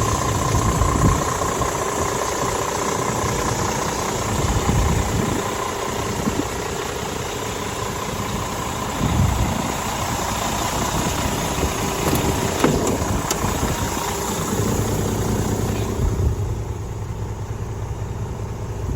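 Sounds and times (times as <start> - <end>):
diesel truck engine idling: 0.0 - 18.9.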